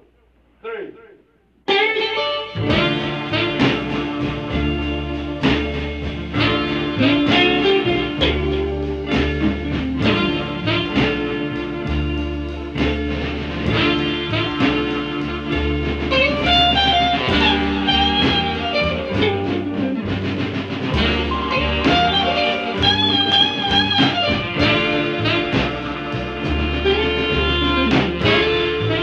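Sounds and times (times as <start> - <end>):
blues guitar music: 1.6 - 29.0.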